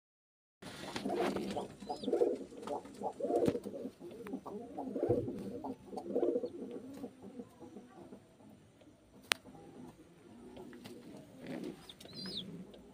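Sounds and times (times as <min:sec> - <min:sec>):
pigeon cooing: 0:00.7 - 0:08.6, 0:09.2 - 0:12.9.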